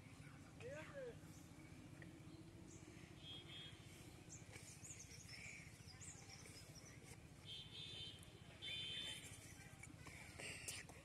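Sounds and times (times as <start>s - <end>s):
low steady background noise: 0.0s - 11.0s
small birds chirping: 1.2s - 11.0s.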